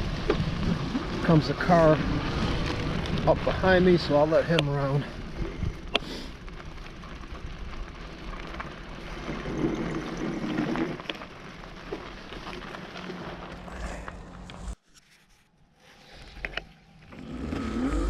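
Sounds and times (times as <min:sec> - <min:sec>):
bicycle tyre noise: 0:00.0 - 0:18.0.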